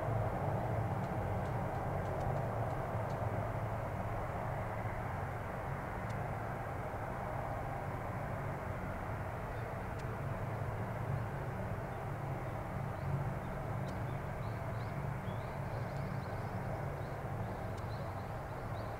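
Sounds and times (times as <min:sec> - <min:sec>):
distant jet engines droning: 0:00.0 - 0:18.9.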